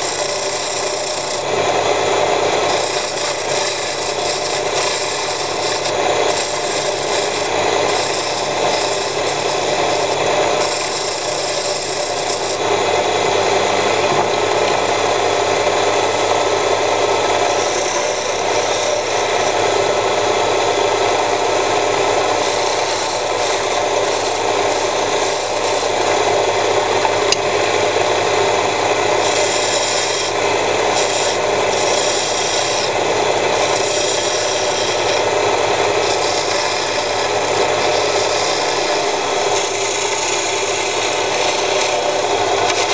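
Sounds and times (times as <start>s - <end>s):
tool scraping spinning wood: 0.0s - 42.9s
wood lathe motor hum: 0.0s - 42.9s.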